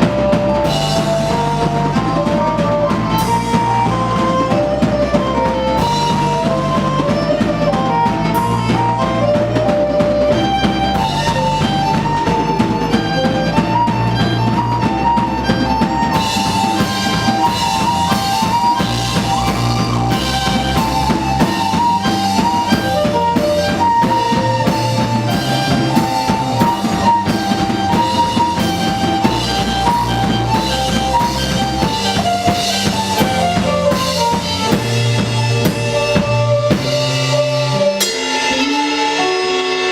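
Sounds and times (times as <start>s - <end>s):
bass notes: 0.0s - 39.9s
drum kit beat: 0.0s - 39.9s
violin melody: 0.0s - 39.9s.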